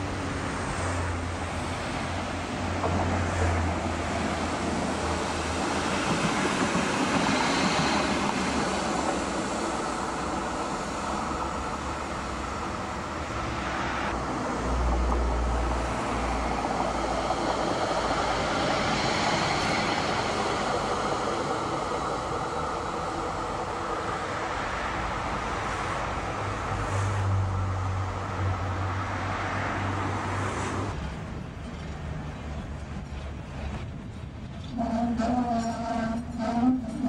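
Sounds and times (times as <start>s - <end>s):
tram passing close: 0.0s - 37.0s
tram running on track: 0.0s - 37.0s.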